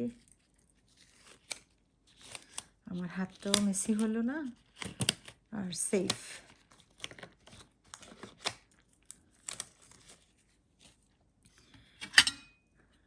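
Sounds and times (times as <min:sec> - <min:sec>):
disposable gloves crinkling: 0:00.0 - 0:11.6.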